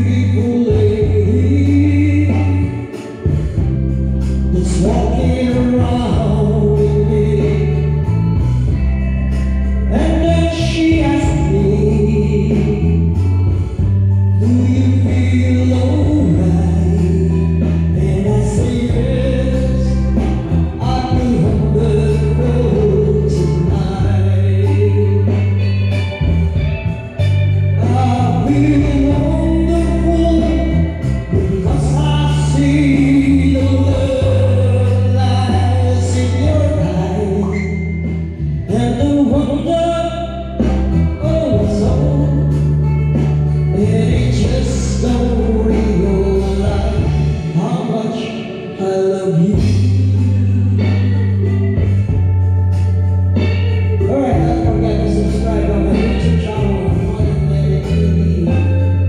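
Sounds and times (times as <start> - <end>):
man singing into a microphone: 0.0 - 9.0, 9.8 - 26.0, 27.8 - 52.2, 54.0 - 59.0
backing track of bass and chords: 0.0 - 59.0.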